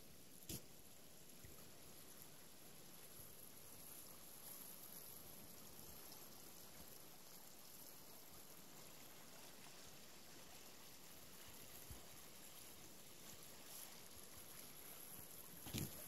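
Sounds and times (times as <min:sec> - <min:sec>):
stream water over stones: 0:00.0 - 0:16.0.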